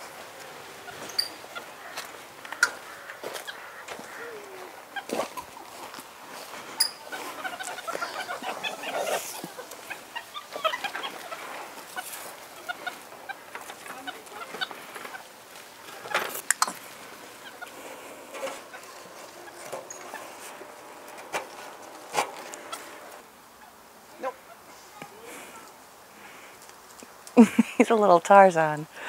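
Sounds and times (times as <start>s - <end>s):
monkeys chattering: 0.8s - 5.8s, 6.4s - 25.7s.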